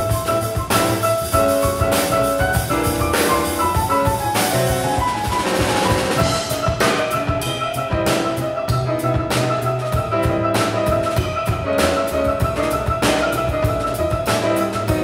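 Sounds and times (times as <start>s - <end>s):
acoustic piano: 0.0s - 15.0s
drum kit steady beat: 0.0s - 15.0s
walking double bass: 0.0s - 15.0s.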